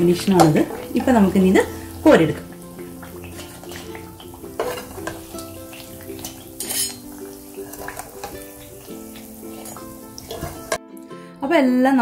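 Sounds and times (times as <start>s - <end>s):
food sizzling in hot oil: 0.0s - 10.8s
metal utensil clinking pan: 0.0s - 10.8s
soft background music: 0.0s - 12.0s.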